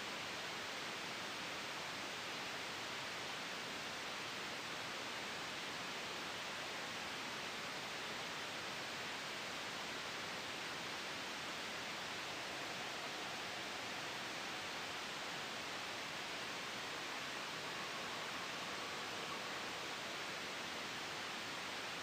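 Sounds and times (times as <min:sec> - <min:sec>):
steady white noise hiss: 0:00.0 - 0:22.0.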